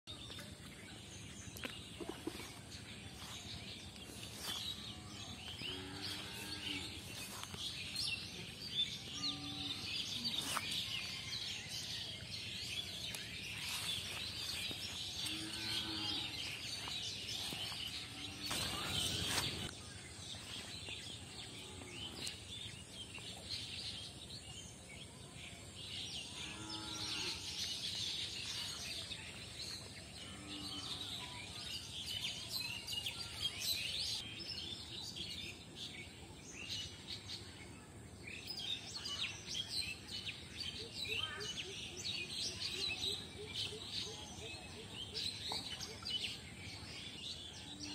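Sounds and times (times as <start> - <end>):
small birds chirping: 0.1 - 47.9.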